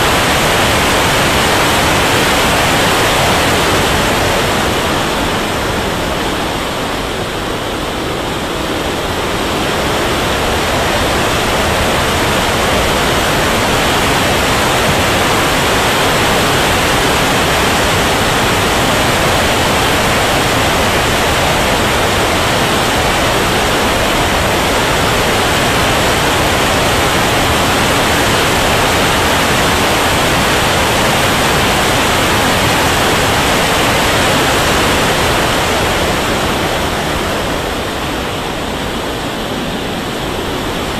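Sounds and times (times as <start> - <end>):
turbine jet rushing airflow: 0.0 - 40.9.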